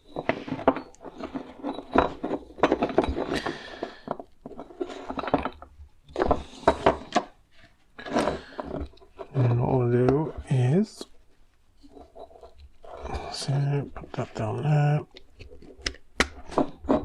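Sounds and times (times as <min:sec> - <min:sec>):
small parts clinking and rattling: 0:00.0 - 0:17.0.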